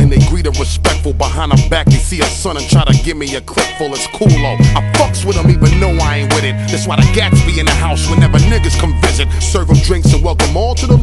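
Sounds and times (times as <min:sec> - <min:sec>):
deep bass line: 0:00.0 - 0:11.0
drum beat: 0:00.0 - 0:11.0
rapping: 0:00.0 - 0:11.0.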